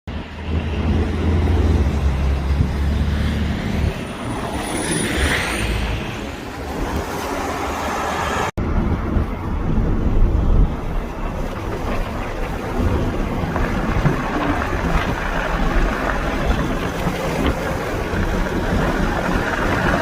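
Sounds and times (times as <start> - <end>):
traffic rushing noise: 0.1 - 20.0
vehicle engine rumble: 0.1 - 20.0.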